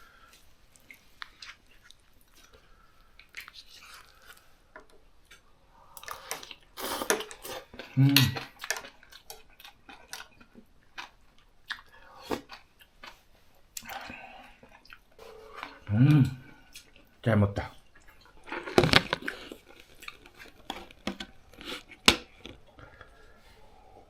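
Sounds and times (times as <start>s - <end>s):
chewing: 0.2s - 23.5s.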